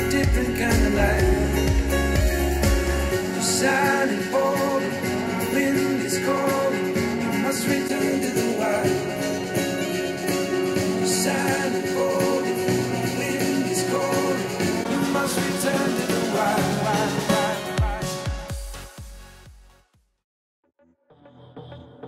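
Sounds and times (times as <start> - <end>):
song with singing over speakers: 0.0 - 19.2.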